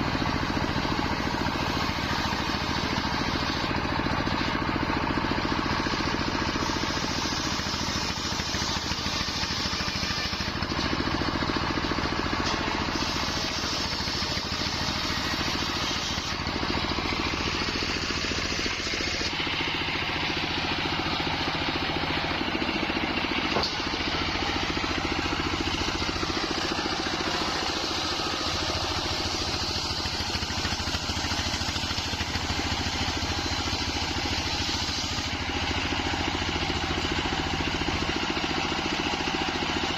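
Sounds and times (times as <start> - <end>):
engine hum: 0.0 - 39.9
circular saw blade hissing: 0.2 - 3.8, 5.8 - 11.3, 12.1 - 38.1.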